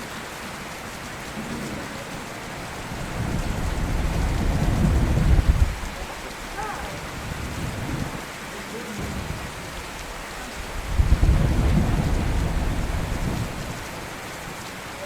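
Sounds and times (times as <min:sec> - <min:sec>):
steady rain falling: 0:00.0 - 0:15.0
thunder rumbling: 0:00.7 - 0:15.0.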